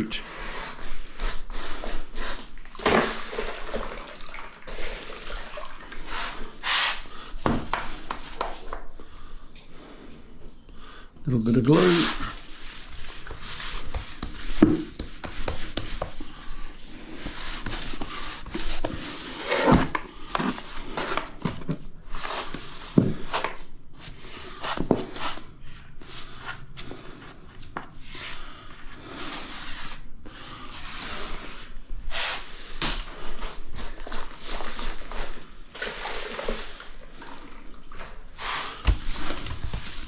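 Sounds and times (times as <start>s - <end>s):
hand scraping on tiles: 0.1s - 3.8s, 4.8s - 8.8s, 11.8s - 40.0s.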